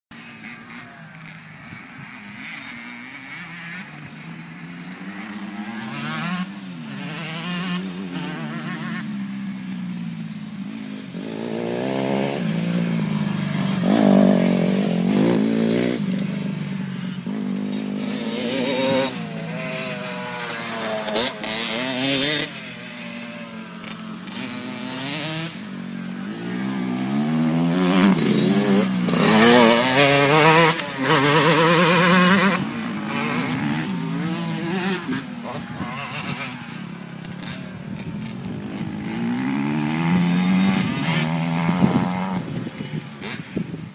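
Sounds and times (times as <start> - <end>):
dirt bike engine revving: 0.2 - 43.7.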